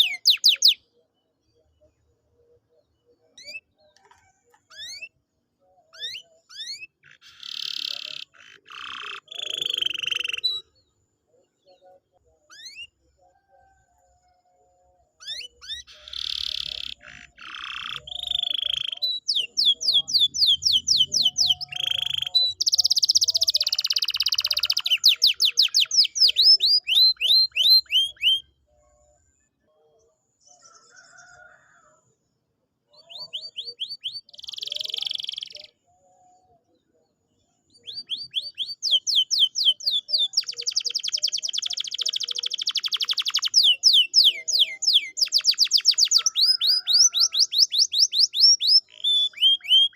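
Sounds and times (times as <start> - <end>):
canary singing: 0.0 - 1.1, 1.8 - 13.8, 15.2 - 28.7, 32.9 - 36.9, 37.7 - 49.9.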